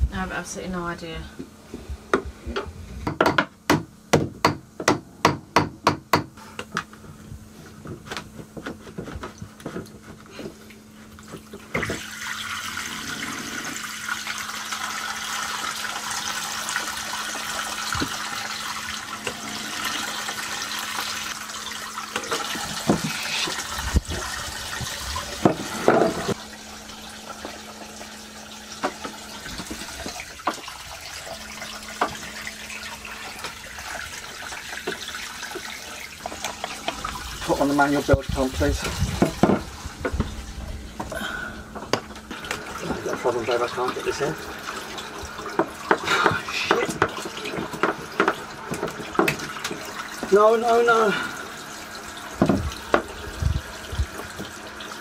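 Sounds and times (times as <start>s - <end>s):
seawater gushing: 8.8s - 55.0s.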